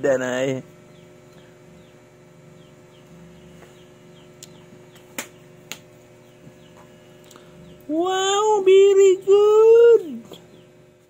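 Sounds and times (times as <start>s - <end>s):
steady low hum: 0.0s - 11.0s
bird peeping: 0.8s - 11.0s.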